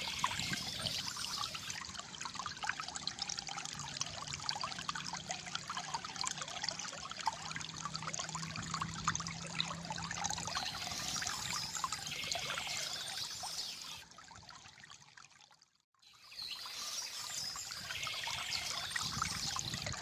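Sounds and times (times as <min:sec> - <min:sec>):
stream gurgling and trickling: 0:00.0 - 0:20.0.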